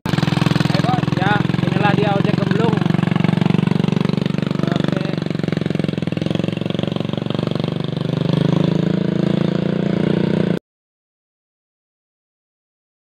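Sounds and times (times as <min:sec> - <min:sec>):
small motorcycle engine chugging: 0:00.1 - 0:10.6.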